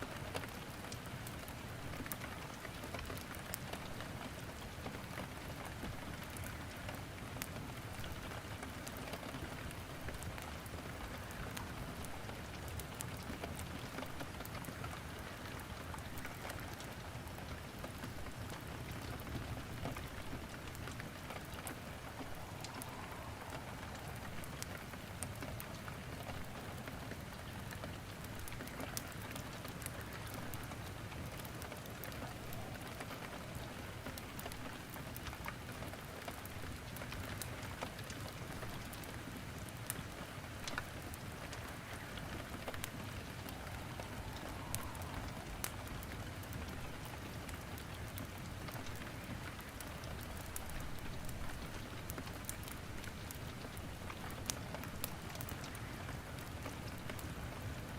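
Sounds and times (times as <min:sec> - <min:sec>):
steady rain: 0:00.0 - 0:57.9
wood crackling in fireplace: 0:00.0 - 0:57.9.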